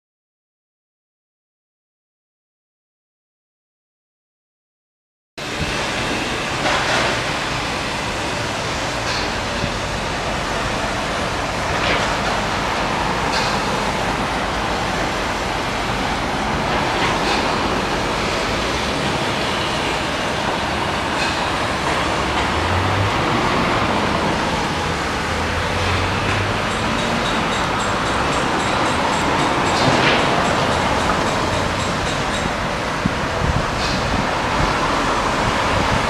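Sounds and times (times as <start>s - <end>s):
passing traffic: 5.4s - 36.0s.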